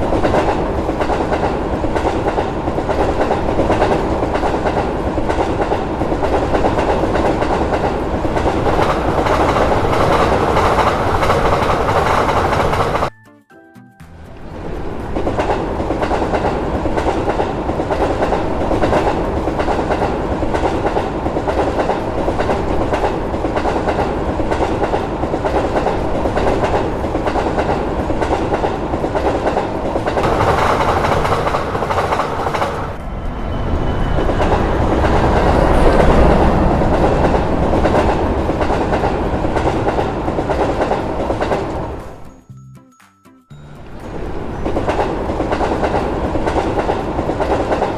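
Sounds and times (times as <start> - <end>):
train wheels clattering over rails: 0.0 - 13.1, 14.4 - 42.3, 44.0 - 47.9.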